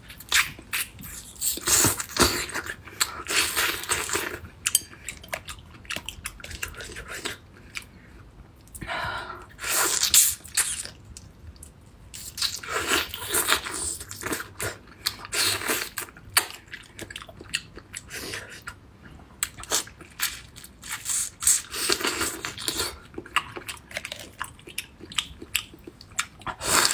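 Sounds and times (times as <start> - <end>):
person chewing food: 0.0 - 8.7, 9.9 - 26.9.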